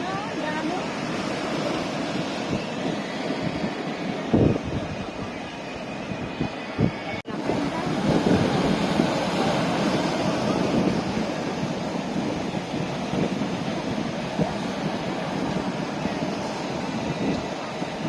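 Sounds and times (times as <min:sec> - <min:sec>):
ocean surf washing ashore: 0:00.0 - 0:18.0
wind buffeting microphone: 0:00.0 - 0:18.0.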